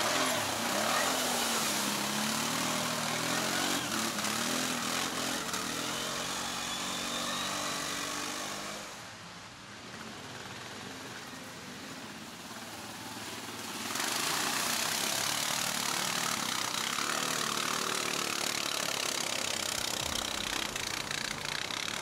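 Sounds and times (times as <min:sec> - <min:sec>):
quad bike engine running: 0:00.0 - 0:09.0, 0:09.9 - 0:22.0.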